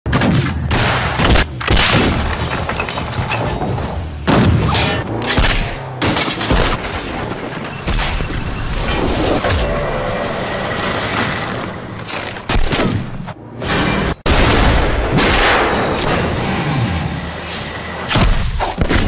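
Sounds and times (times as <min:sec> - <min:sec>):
cannon shots and explosions: 0:00.1 - 0:19.0.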